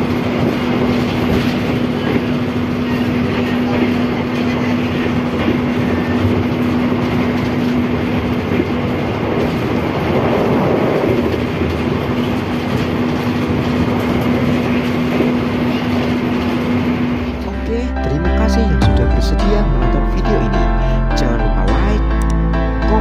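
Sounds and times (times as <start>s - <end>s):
air-conditioning hum: 0.0s - 23.0s
train wheels rumbling on rails: 0.0s - 23.0s.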